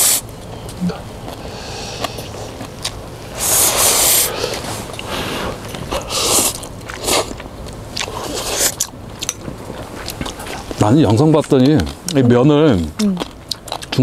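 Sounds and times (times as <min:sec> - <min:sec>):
eating sounds: 0:00.0 - 0:14.0.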